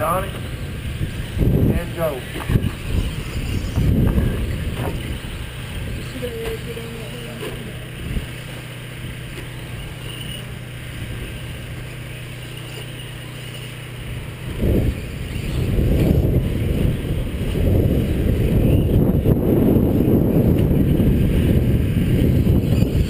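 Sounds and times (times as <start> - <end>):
wind buffeting microphone: 0.0 - 12.4, 13.1 - 23.0
steady low hum: 0.0 - 23.0.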